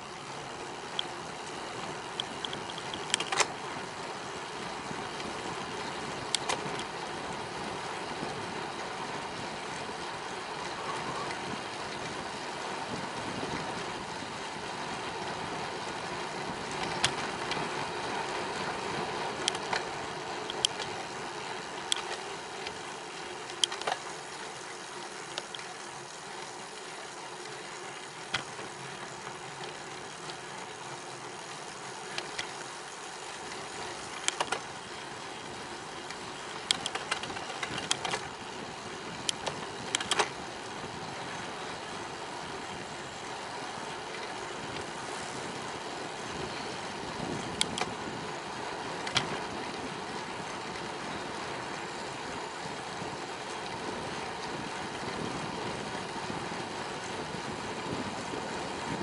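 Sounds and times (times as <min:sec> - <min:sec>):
bike clicks and rattles: 0:00.0 - 0:59.0
wind and tyres rushing: 0:00.0 - 0:59.0.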